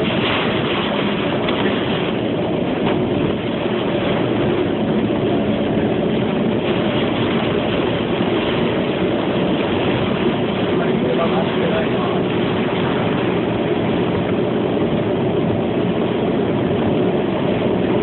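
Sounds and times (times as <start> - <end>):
vehicle in wind and rain: 0.0 - 18.0.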